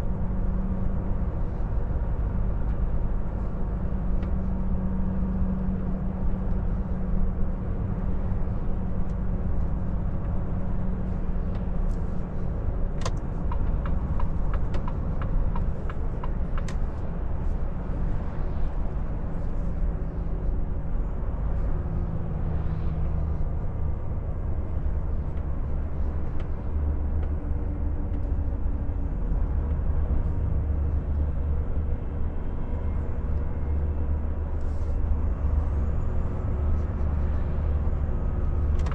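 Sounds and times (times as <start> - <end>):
truck engine and road rumble: 0.0 - 38.9.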